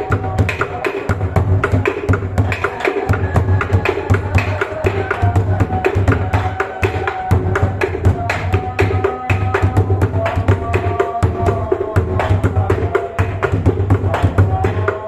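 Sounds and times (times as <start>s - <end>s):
large drum beaten fast: 0.0s - 15.0s.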